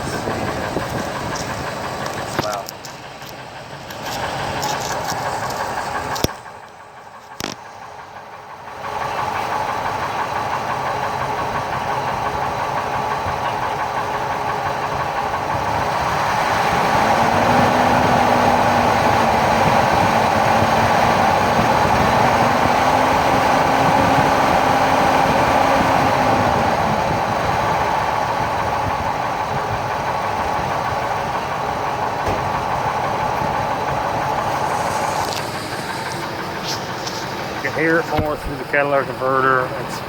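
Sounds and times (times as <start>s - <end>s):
engine knocking: 0.0s - 40.0s
truck engine idling: 0.0s - 40.0s.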